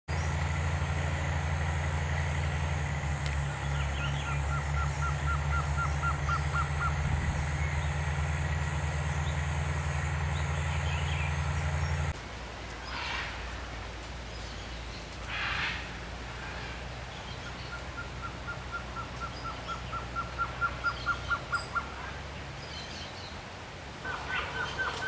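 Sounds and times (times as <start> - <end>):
steady low hum: 0.1 - 25.0.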